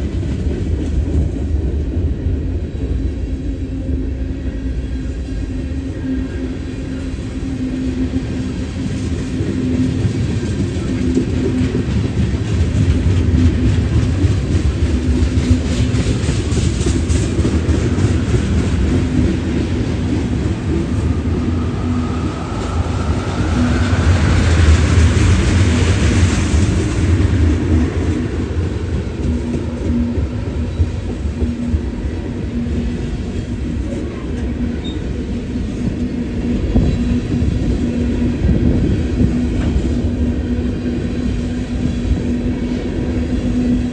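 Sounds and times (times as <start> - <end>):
train wheels clacking on rails: 0.0 - 43.9
train wheel squeal: 3.7 - 43.9.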